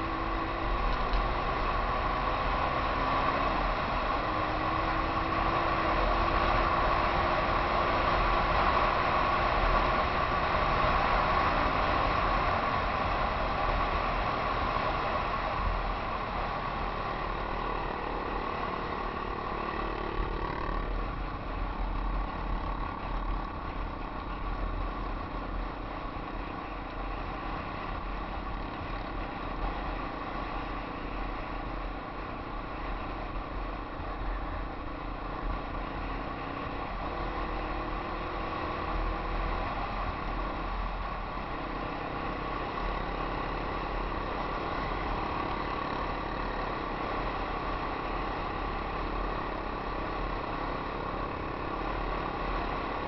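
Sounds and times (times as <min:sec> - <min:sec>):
motorcycle engines running: 0:00.0 - 0:53.0.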